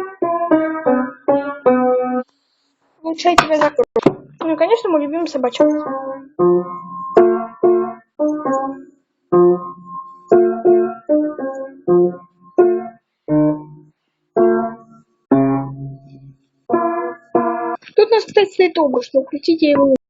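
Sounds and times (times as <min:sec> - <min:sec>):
piano notes and chords: 0:00.0 - 0:02.3, 0:03.4 - 0:17.9.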